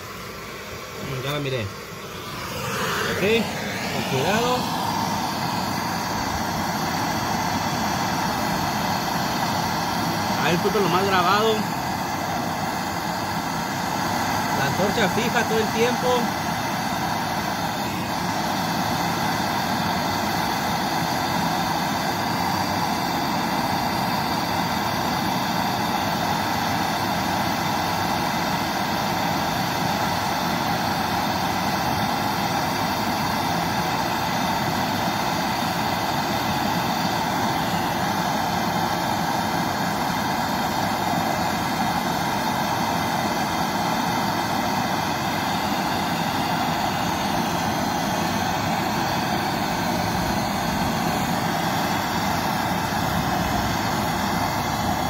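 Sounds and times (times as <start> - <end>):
gas torch burning: 0.0 - 55.0.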